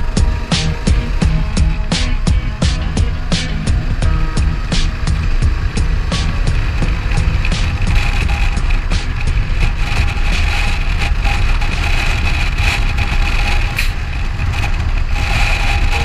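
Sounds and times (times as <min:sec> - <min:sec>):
motorcycle engine running: 0:00.0 - 0:16.0
wind rumble on camera: 0:00.0 - 0:16.0.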